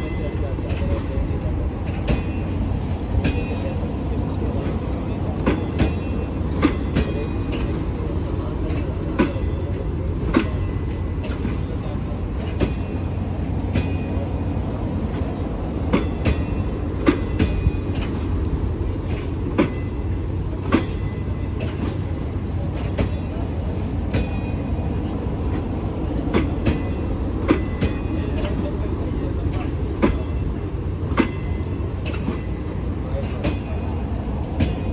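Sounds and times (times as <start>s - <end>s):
train rumbling past: 0.0s - 34.9s
wheels clicking over rail joints: 0.0s - 34.9s.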